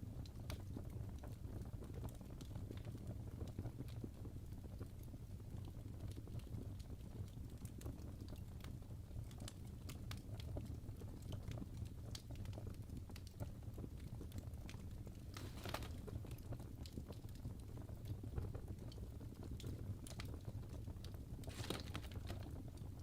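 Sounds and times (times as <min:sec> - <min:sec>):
low rumble of flames: 0:00.0 - 0:23.0
fire crackling and popping: 0:00.1 - 0:23.0.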